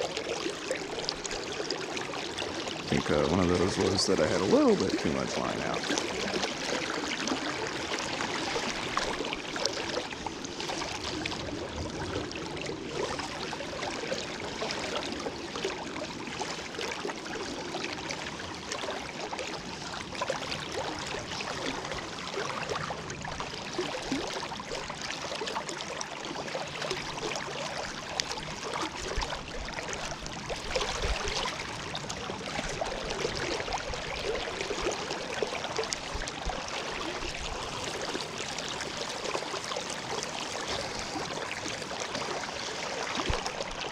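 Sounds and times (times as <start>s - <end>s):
river water rushing: 0.0s - 22.8s, 23.7s - 43.9s.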